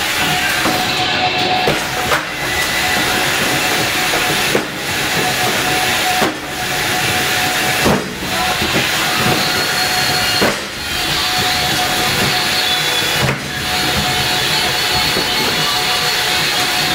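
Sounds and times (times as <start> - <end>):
loud steady hiss: 0.0 - 16.9
cardboard boxes knocking: 0.2 - 16.9.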